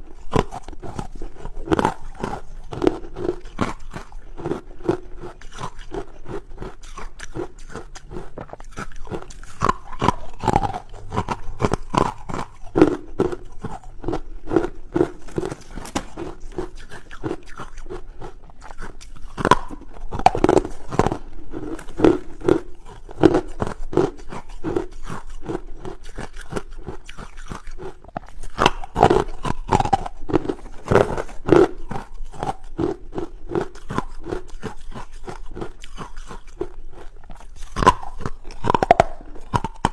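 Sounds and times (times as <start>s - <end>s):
crunching ice: 0.1s - 39.9s.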